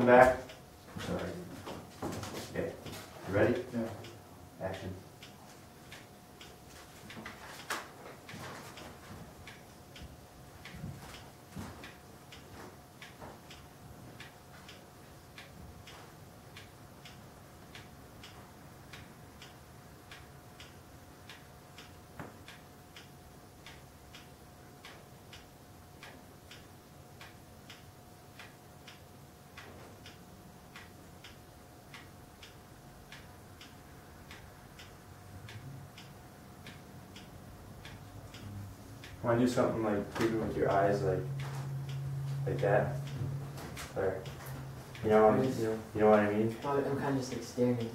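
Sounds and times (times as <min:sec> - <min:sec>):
faint steady hum: 0:00.0 - 0:47.9
clock ticking: 0:08.1 - 0:47.9.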